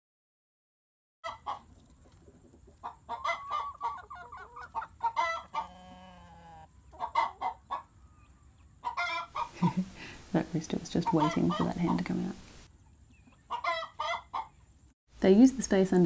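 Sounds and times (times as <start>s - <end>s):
chickens clucking: 1.2s - 14.8s.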